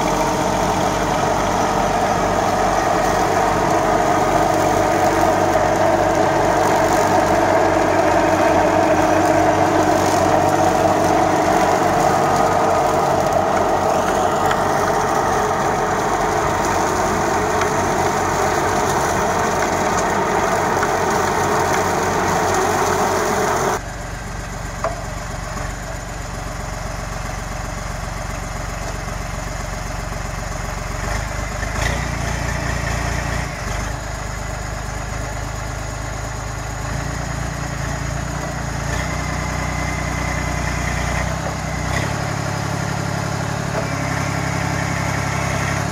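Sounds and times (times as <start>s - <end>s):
rotary mulcher cutting grass: 0.0s - 45.9s
tractor diesel engine: 0.0s - 45.9s.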